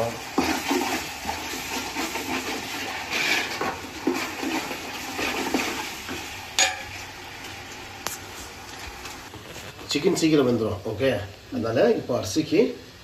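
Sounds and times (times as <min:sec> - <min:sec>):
spatula stirring wet food in pot: 0:00.0 - 0:10.7.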